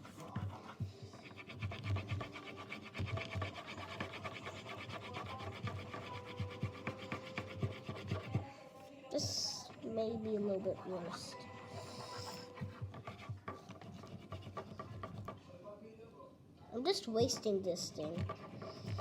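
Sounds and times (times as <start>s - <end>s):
drawing tool scratching on paper: 0.0s - 8.4s, 9.2s - 15.4s, 17.1s - 19.0s.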